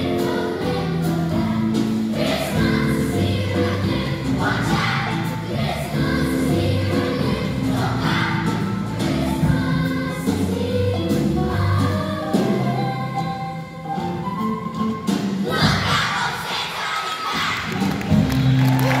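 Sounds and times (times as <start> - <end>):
children's choir singing: 0.0 - 14.3, 15.0 - 18.0.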